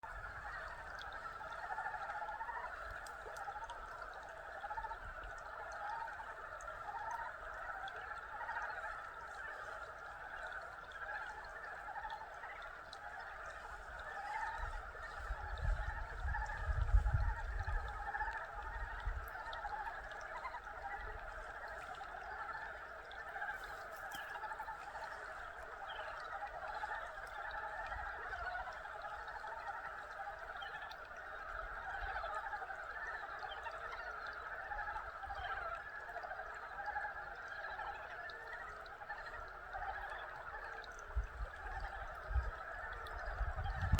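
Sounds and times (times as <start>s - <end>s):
frogs calling: 0.0s - 43.9s.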